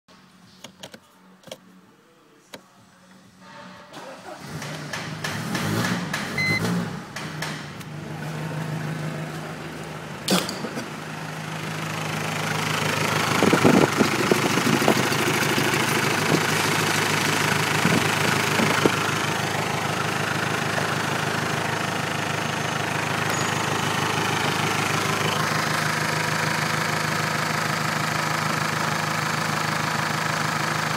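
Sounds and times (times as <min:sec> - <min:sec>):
diesel engine idling: 0:04.0 - 0:30.9.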